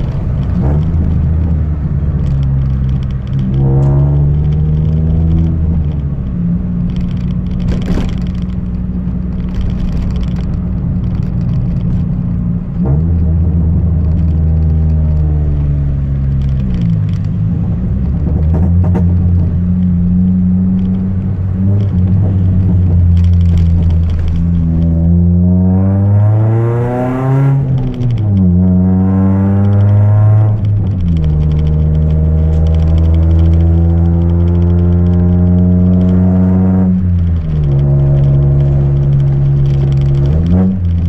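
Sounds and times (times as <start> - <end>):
car engine with open exhaust: 0.0 - 41.0.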